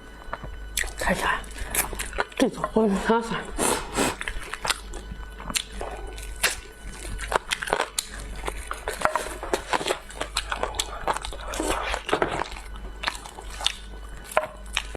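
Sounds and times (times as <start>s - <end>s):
biting and chewing crunches: 0.3s - 2.8s, 3.6s - 14.9s.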